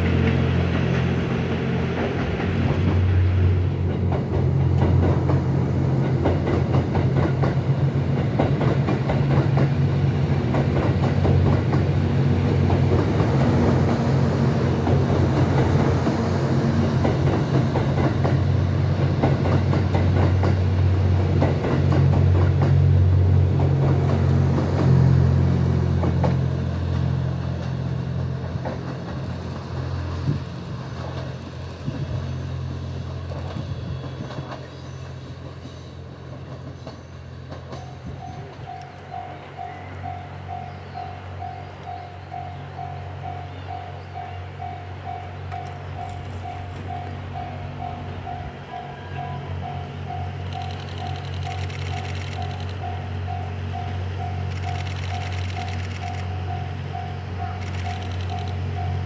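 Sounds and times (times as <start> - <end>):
train wheels clicking over rail joints: 0.0 - 48.6, 49.6 - 59.0
train engine hum: 0.0 - 59.0.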